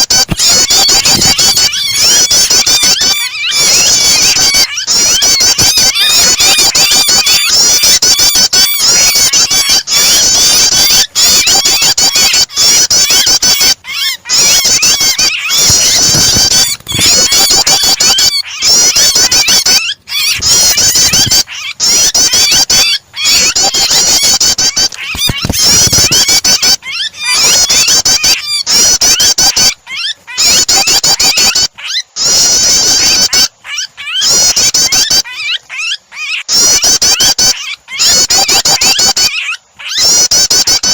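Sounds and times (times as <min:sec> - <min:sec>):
birds chattering and chirping: 0:00.0 - 0:40.9
trapped bird squealing: 0:00.0 - 0:40.9.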